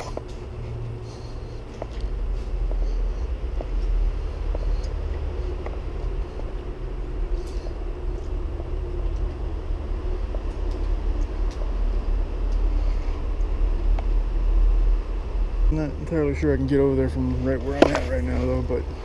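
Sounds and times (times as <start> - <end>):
low rumble of road traffic: 0.0 - 19.0.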